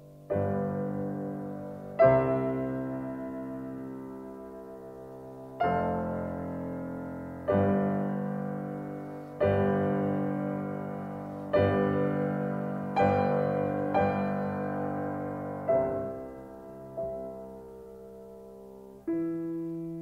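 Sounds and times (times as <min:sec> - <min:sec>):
piano chords ringing: 0:00.0 - 0:20.0.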